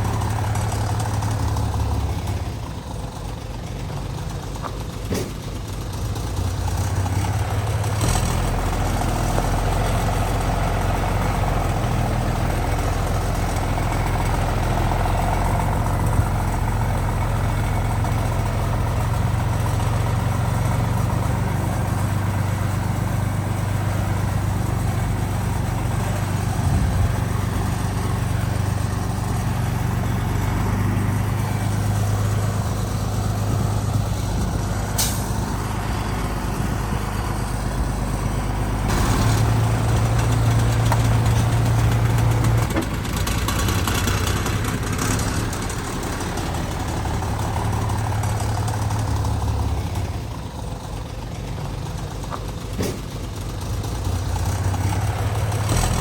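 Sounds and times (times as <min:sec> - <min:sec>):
diesel construction machinery running: 0:00.0 - 0:56.0.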